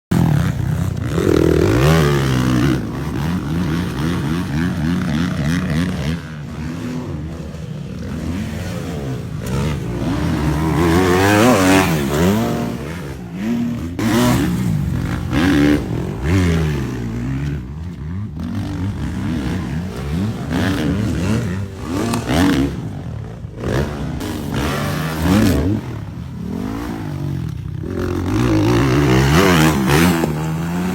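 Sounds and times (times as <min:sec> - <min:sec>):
motocross bike engine revving: 0:00.1 - 0:30.9.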